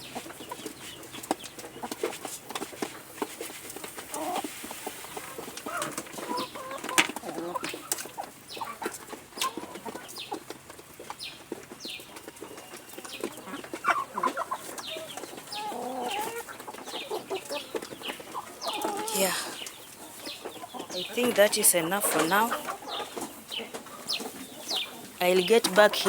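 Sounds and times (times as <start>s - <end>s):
chickens clucking: 0.0s - 26.0s
chicks peeping: 0.0s - 26.0s.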